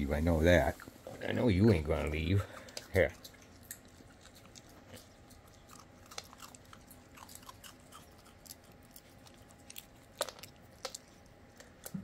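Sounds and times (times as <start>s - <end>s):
animal crunching cookie: 0.4s - 12.0s.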